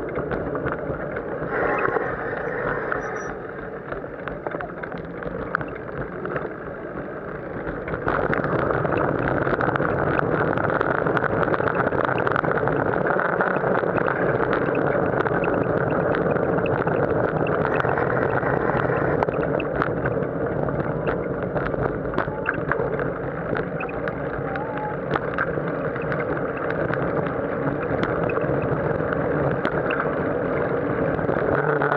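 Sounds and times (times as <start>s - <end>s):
road rumble: 0.0s - 31.9s
small clicks and rattles: 0.0s - 31.9s
wind noise on microphone: 0.0s - 31.9s.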